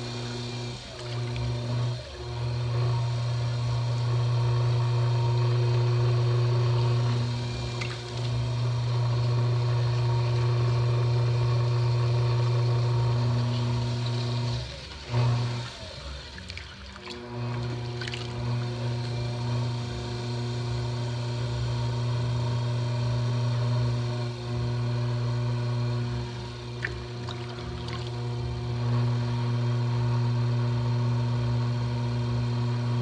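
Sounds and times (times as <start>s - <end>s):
pottery wheel motor hum: 0.0s - 33.0s.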